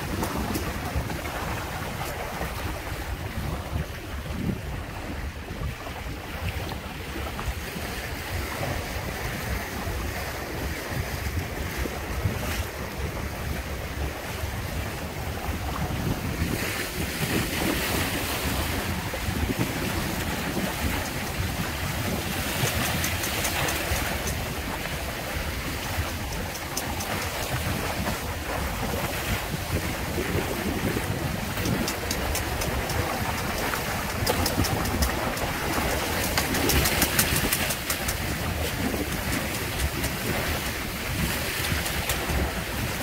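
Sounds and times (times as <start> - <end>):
water rushing past hulls: 0.0 - 43.0
wind buffeting microphone: 0.0 - 43.0.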